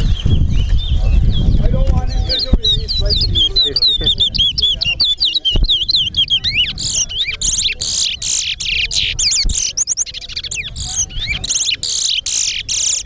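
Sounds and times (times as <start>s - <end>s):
finch singing warbling notes: 2.2s - 13.0s.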